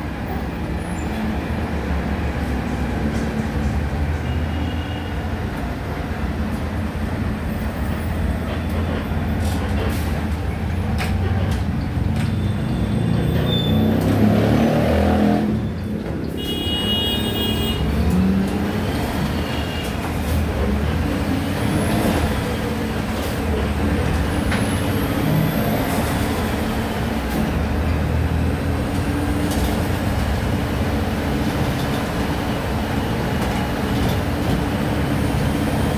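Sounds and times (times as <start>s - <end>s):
bus engine running: 0.0s - 4.4s, 5.2s - 35.9s.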